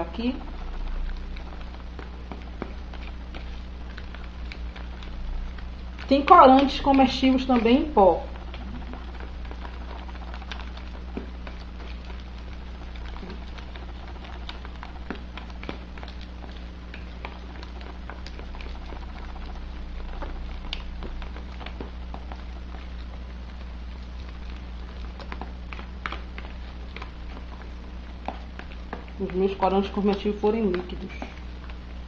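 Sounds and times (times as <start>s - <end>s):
batter stirred in plastic bowl: 0.0s - 32.0s
steady low hum: 0.0s - 32.0s.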